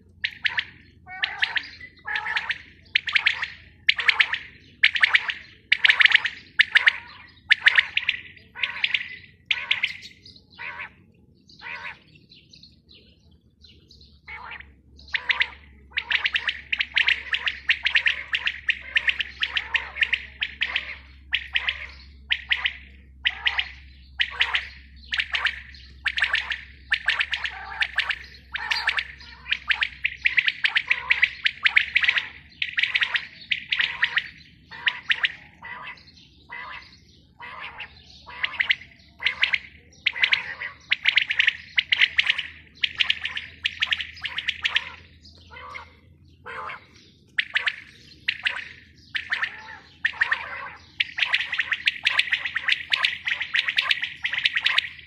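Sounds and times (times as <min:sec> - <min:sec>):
quails calling: 0:00.0 - 0:12.9, 0:13.7 - 0:55.0.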